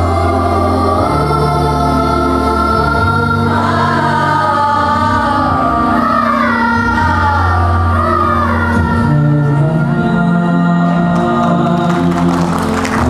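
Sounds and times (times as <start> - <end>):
children's choir singing: 0.0 - 13.0
low accompaniment: 0.0 - 13.0.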